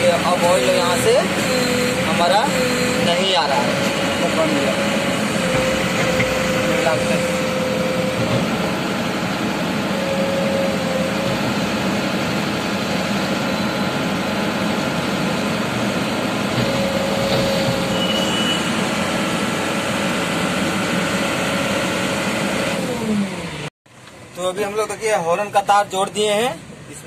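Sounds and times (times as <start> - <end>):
diesel engine running: 0.0 - 25.2.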